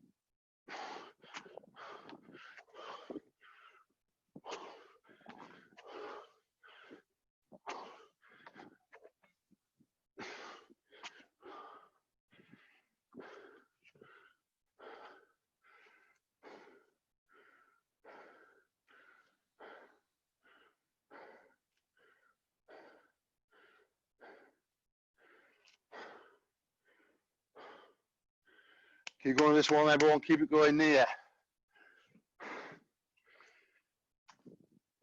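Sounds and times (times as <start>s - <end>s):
person breathing hard: 0.7s - 9.0s, 10.2s - 29.1s, 31.2s - 34.6s.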